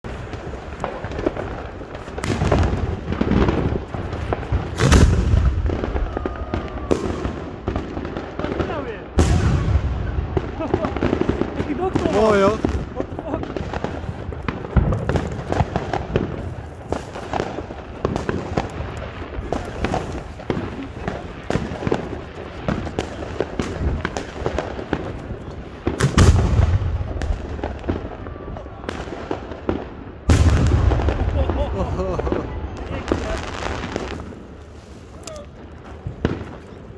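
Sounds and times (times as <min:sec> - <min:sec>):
deep firework boom: 0:00.0 - 0:25.2, 0:25.8 - 0:34.5
fireworks bangs and crackling: 0:00.0 - 0:36.9.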